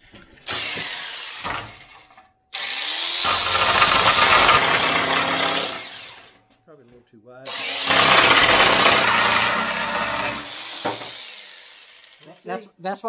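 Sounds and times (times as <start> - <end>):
electric jigsaw sawing wood: 0.4 - 6.4, 7.5 - 12.2.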